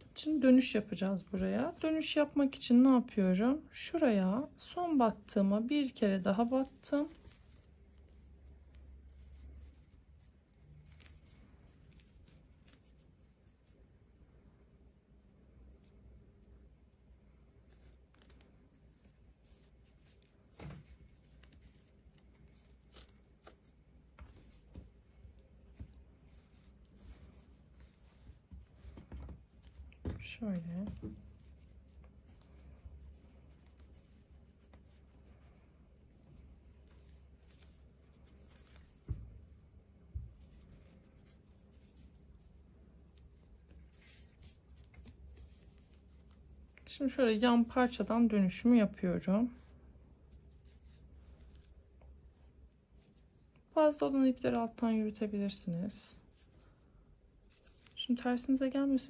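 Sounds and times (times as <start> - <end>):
paper yarn crinkling: 0.0 - 59.0.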